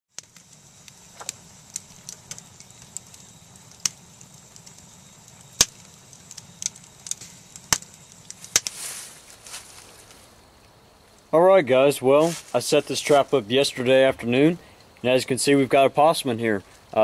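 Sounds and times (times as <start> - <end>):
wood fire popping and snapping: 0.1 - 15.5
fire hissing: 0.1 - 17.0.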